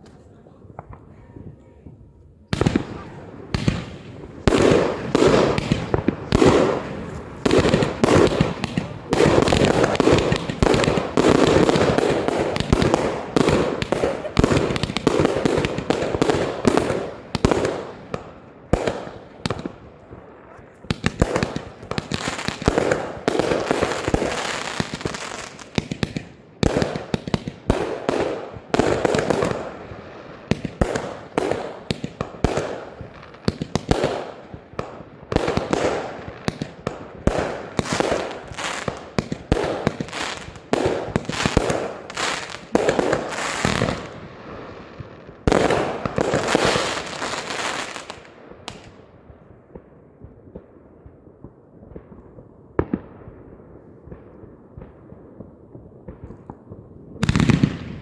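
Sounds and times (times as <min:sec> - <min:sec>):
crackling firework bursts: 0:02.5 - 0:49.0, 0:54.1 - 0:58.0
fireworks launching and banging: 0:02.5 - 0:49.0, 0:54.0 - 0:58.0.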